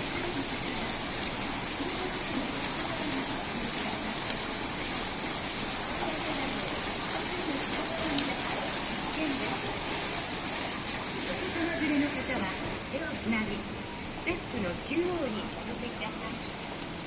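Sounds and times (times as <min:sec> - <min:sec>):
water splashing down cascade: 0:00.0 - 0:17.0.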